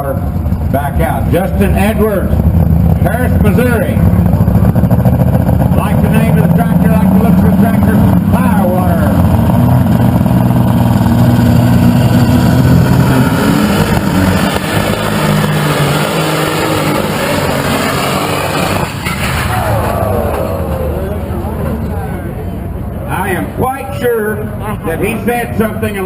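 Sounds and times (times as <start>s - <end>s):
tractor engine running at high revs: 0.0s - 21.9s.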